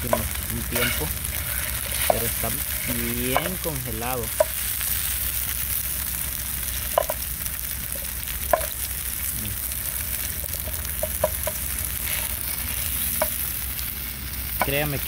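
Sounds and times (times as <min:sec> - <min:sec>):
rice sizzling in a hot pan: 0:00.0 - 0:15.0.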